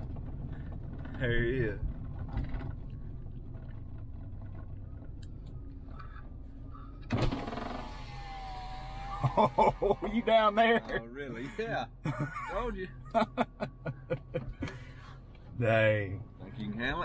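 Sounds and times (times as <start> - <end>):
pickup truck engine rumble: 0.0 - 17.0.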